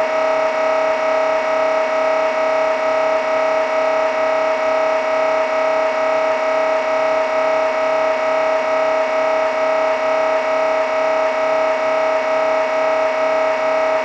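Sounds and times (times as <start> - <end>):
mri scanner buzzing drone: 0.0 - 14.0.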